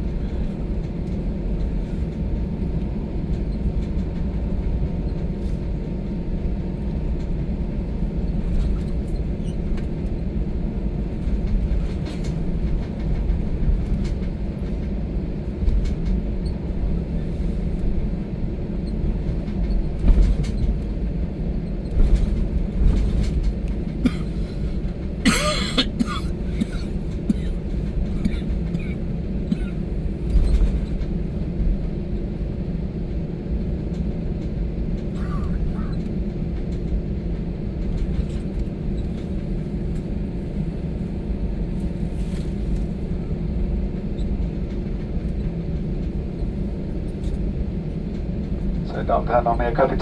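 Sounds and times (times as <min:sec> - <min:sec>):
airliner engines rumbling in cabin: 0:00.0 - 0:50.0.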